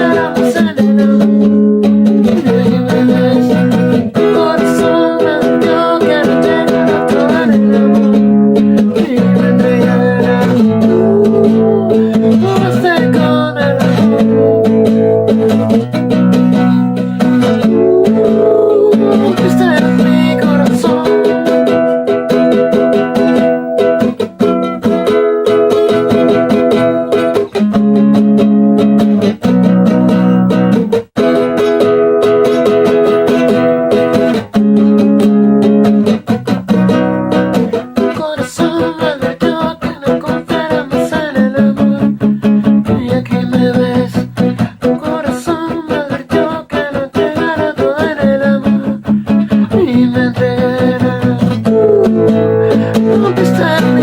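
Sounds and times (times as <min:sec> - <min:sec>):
acoustic stringed instrument strumming: 0:00.0 - 0:54.0.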